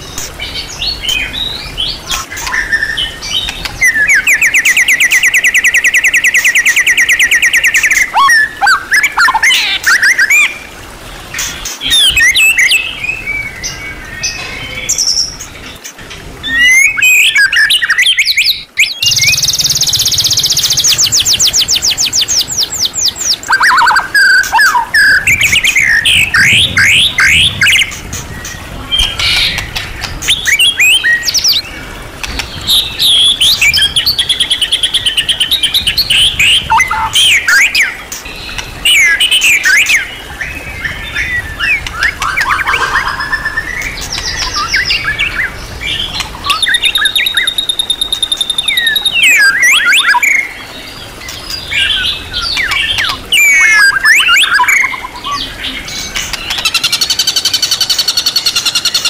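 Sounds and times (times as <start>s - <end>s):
bird singing varied song: 0.0s - 59.0s.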